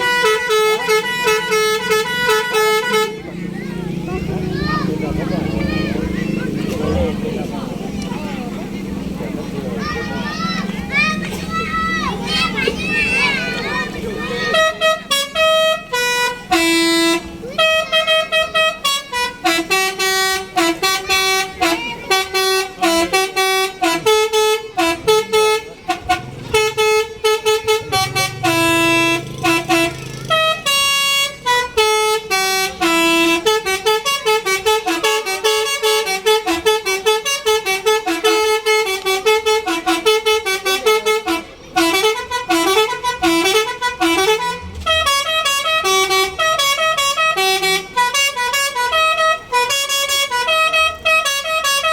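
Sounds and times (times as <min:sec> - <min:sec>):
bus musical horn melody: 0:00.0 - 0:51.9.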